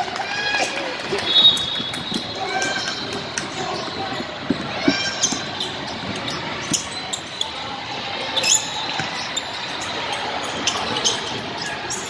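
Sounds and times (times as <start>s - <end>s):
echoing crowd chatter: 0.0s - 12.0s
sneakers squeaking on hardwood: 1.2s - 7.6s, 8.3s - 12.0s.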